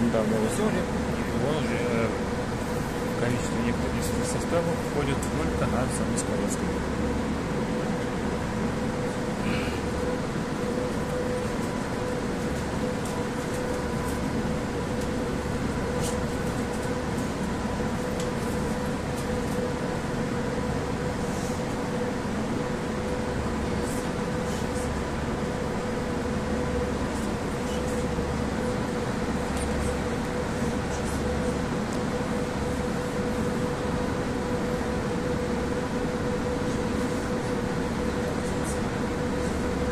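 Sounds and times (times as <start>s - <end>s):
constant mid-pitched hum: 0.0s - 39.9s
metro car low rumble: 0.0s - 39.9s.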